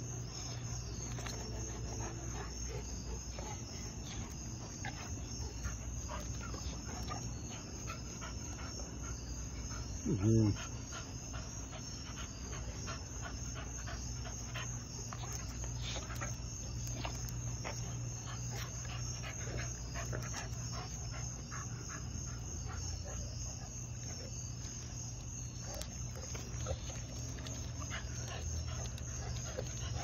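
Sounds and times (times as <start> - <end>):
dogs play fighting: 0.0 - 30.0
steady low hum: 0.0 - 30.0.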